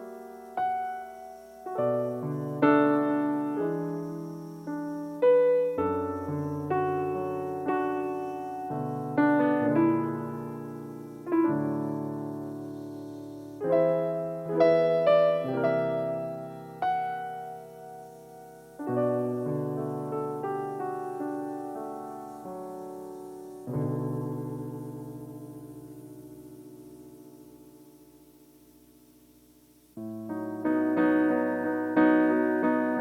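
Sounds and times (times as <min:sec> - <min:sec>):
slow gentle piano piece: 0:00.0 - 0:33.0.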